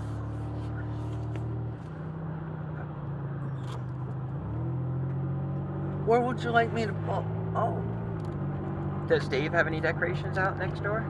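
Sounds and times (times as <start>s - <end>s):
car engine from inside: 0.0s - 11.0s
road noise: 0.0s - 11.0s.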